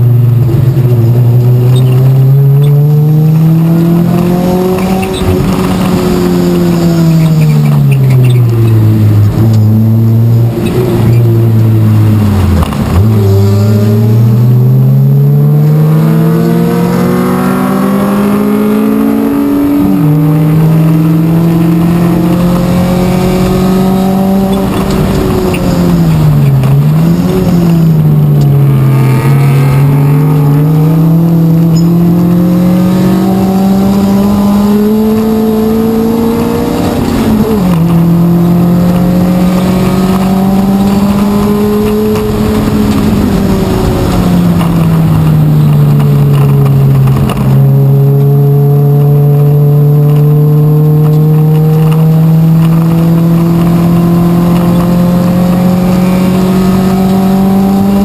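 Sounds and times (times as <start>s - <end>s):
race car engine under load: 0.0s - 58.0s.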